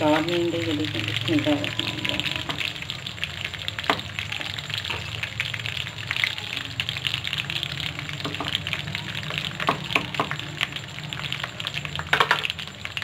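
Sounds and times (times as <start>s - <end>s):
meat sizzling in hot fat: 0.0s - 13.0s.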